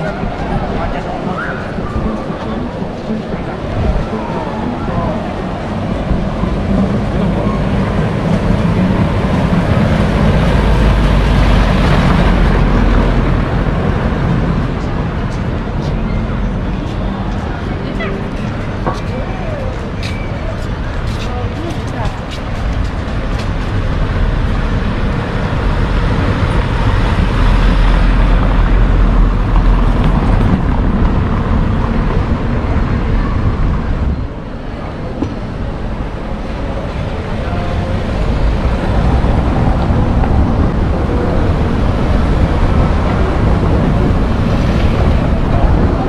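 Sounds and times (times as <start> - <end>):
street ambience rush and rumble: 0.0 - 46.0.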